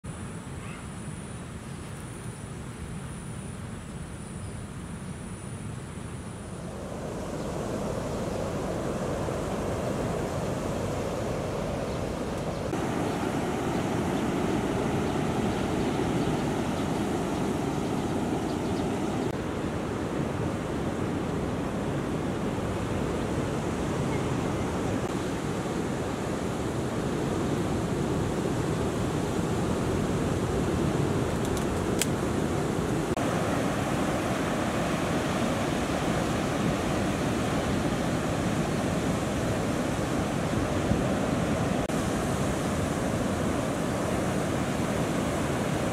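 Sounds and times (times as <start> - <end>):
ocean waves breaking: 6.6 - 45.9.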